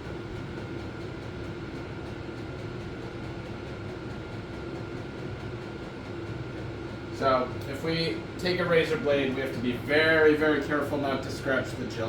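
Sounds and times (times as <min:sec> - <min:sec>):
mechanical hum with low rumble: 0:00.0 - 0:12.0.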